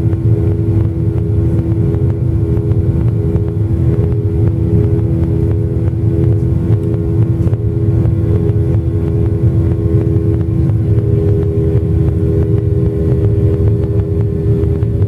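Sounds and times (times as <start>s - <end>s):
airflow rumble: 0.0s - 15.0s
jet engines droning in cabin: 0.0s - 15.0s.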